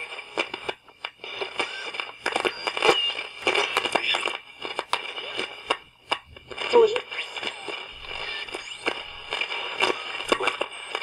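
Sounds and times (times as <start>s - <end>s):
radio static crackling: 0.0s - 11.0s
radio whistling tones: 0.0s - 11.0s.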